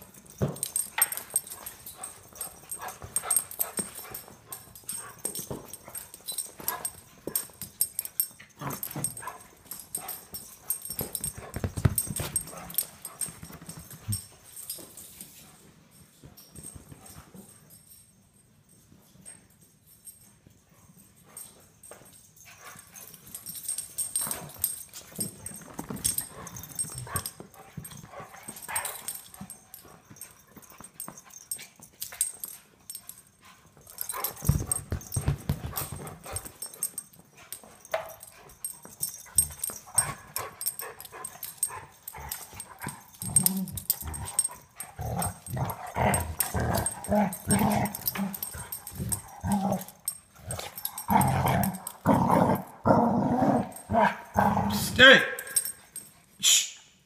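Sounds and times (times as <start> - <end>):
dogs play-fighting: 0.0 - 56.4.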